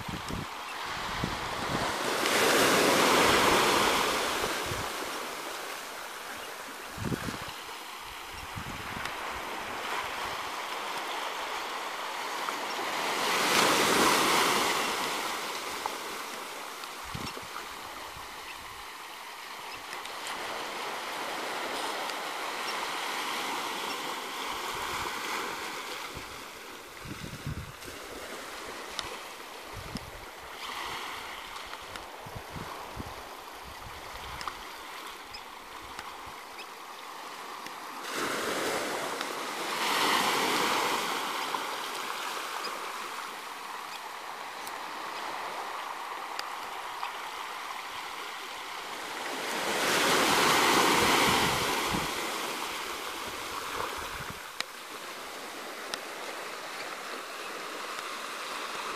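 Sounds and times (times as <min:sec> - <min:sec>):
waves washing onto sand: 0:00.0 - 0:58.9.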